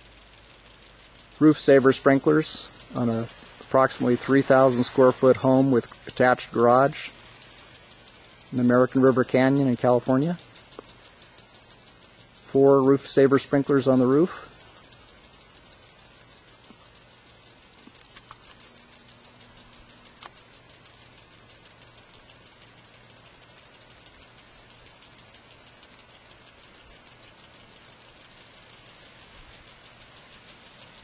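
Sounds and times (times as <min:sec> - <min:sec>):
sprinklers spraying water on roof: 0:00.0 - 0:31.0.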